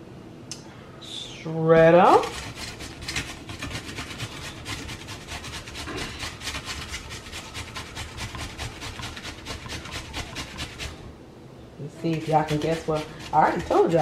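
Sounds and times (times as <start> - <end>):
potato grated by hand: 1.7 - 11.1, 11.9 - 14.0.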